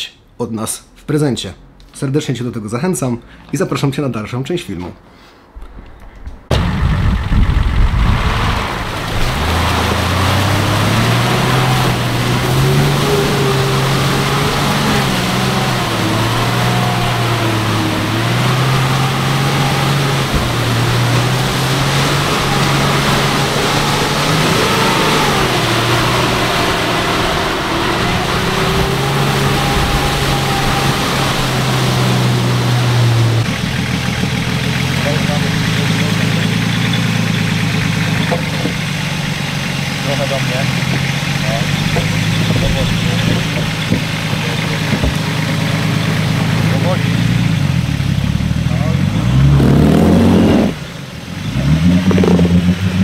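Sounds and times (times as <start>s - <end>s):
off-road vehicle engine driving: 0.0s - 53.0s.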